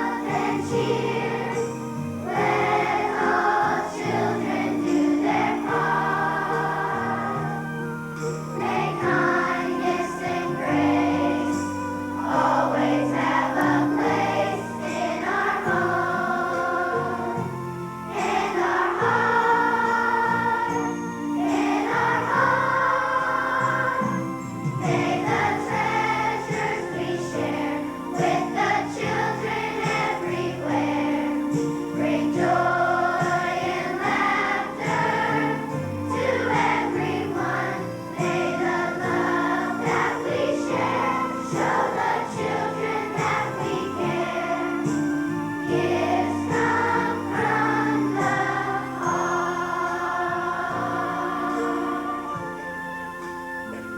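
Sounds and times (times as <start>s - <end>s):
children's choir singing: 0.0s - 53.9s.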